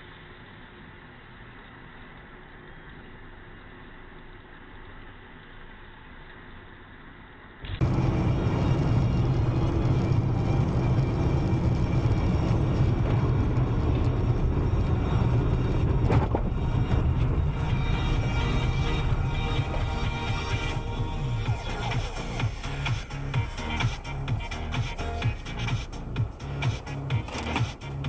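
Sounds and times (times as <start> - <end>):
road and engine noise in car: 0.0 - 28.0.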